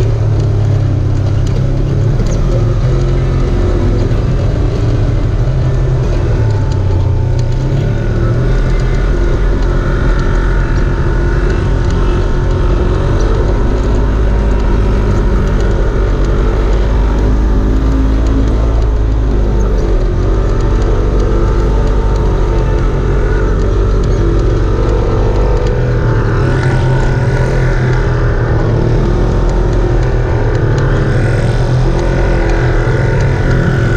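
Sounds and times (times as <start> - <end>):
vehicle engine running at low revs: 0.0 - 33.9.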